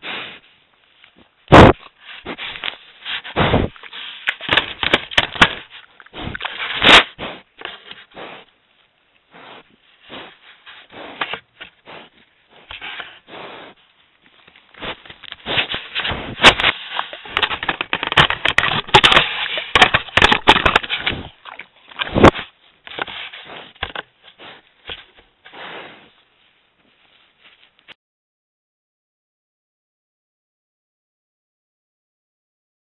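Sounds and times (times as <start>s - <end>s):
snout scraping trail camera: 0.0s - 28.0s.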